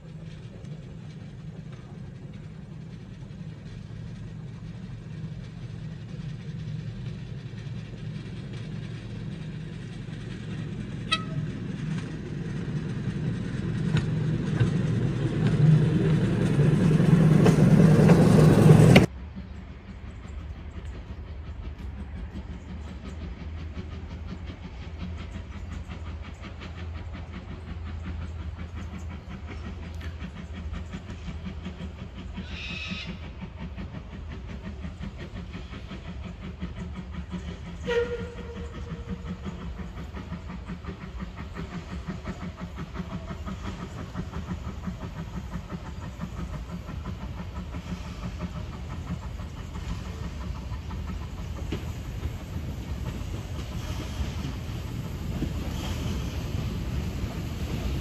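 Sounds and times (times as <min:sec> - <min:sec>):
steam locomotive rumble: 0:00.0 - 0:58.0.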